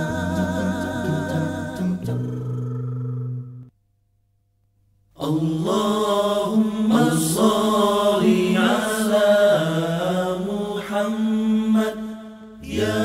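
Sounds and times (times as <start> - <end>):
voice chanting devotional song: 0.0 - 3.6, 5.2 - 13.0.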